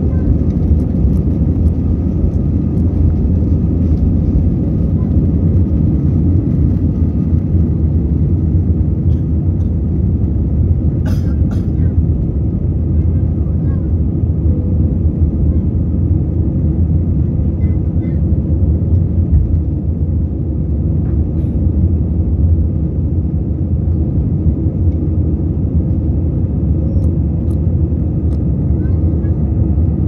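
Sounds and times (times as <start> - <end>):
jet engines rumbling in cabin: 0.0 - 30.0.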